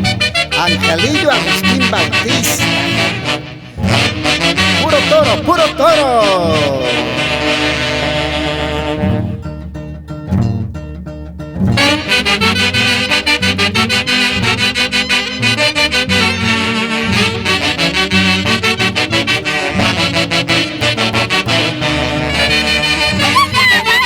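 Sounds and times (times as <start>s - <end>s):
band with saxophones: 0.0s - 9.6s, 11.8s - 24.0s.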